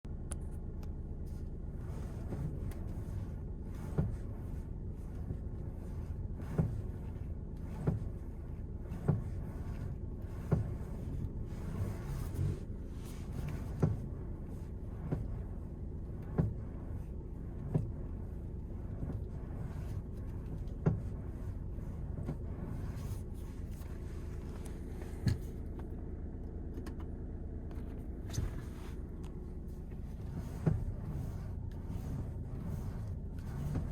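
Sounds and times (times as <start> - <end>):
low vehicle rumble: 0.0 - 33.9
power steering popping: 0.1 - 33.9.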